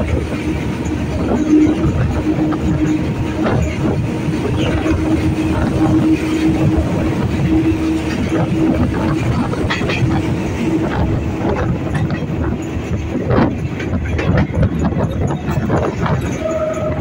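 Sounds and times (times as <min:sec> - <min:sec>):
train rumbling: 0:00.0 - 0:17.0
wheels clacking over rails: 0:00.0 - 0:17.0.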